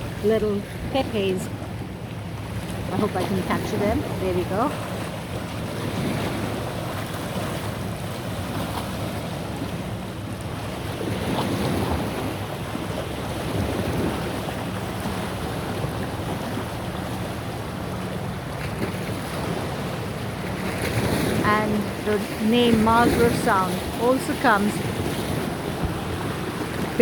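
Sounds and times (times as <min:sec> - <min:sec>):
sea waves washing against rocks: 0:00.0 - 0:27.0
wind buffeting microphone: 0:00.0 - 0:27.0.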